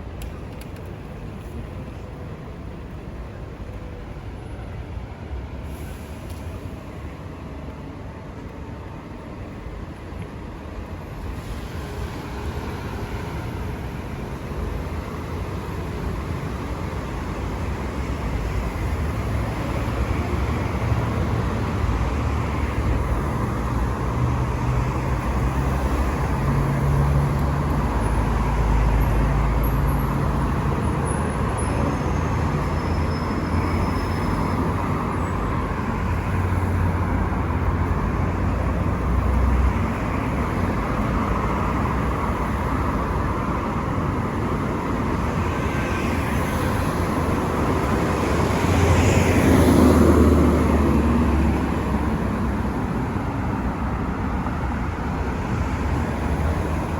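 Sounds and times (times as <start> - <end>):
hum of passing cars: 0.0 - 56.9.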